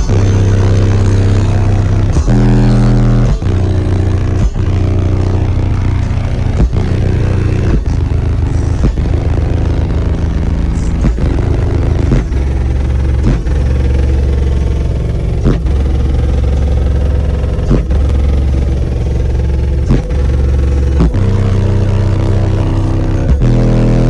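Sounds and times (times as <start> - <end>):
subwoofers playing deep bass notes: 0.0 - 24.0.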